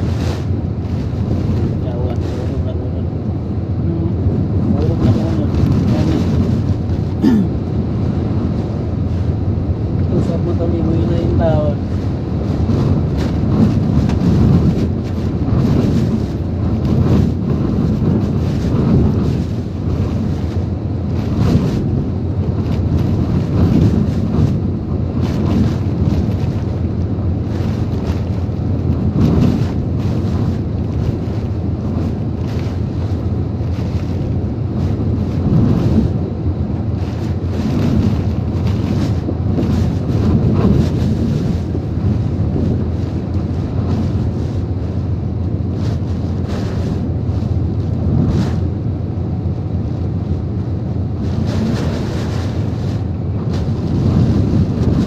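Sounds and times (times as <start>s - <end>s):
heavy rain: 0.0s - 48.6s
strong wind: 0.0s - 55.0s
wind buffeting microphone: 0.0s - 55.0s.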